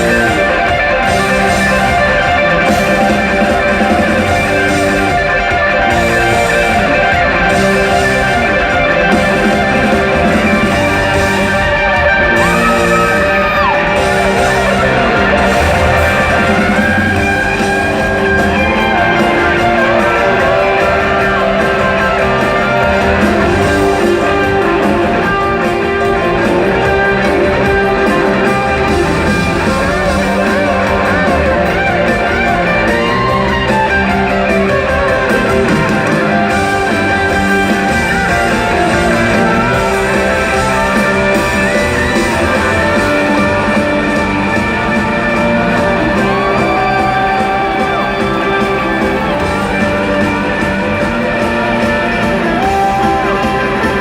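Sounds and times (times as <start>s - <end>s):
electric guitar solo: 0.0s - 54.0s
live rock band playing: 0.0s - 54.0s.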